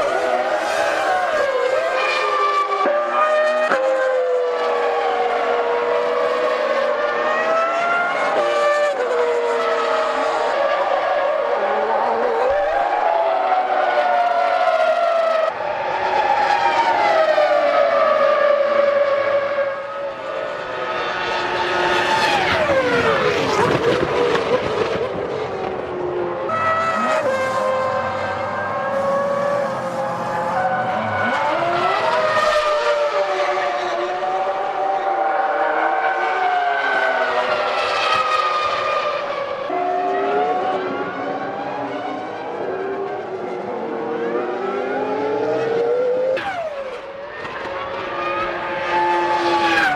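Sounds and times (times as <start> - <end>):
racing car engines at high revs: 0.0 - 49.9.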